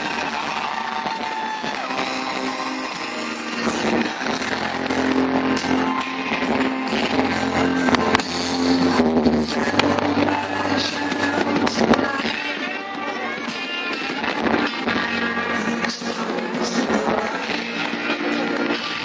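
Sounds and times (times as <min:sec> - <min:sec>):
rock music with guitar: 0:00.0 - 0:19.0.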